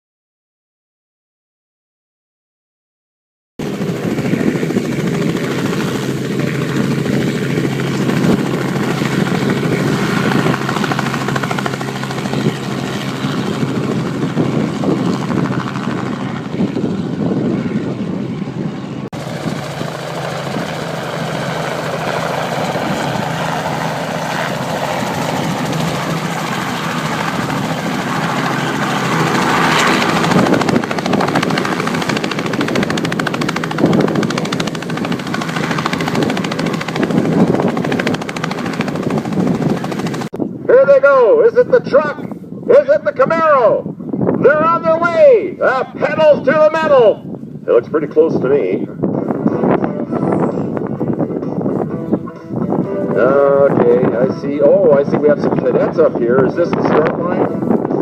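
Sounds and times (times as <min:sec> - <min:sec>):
aircraft engines running: 0:03.6 - 0:58.0.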